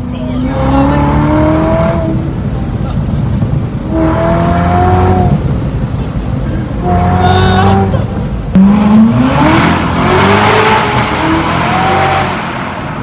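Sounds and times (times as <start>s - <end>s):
car engine accelerating hard: 0.1s - 13.0s
loud rush of exhaust: 0.4s - 13.0s.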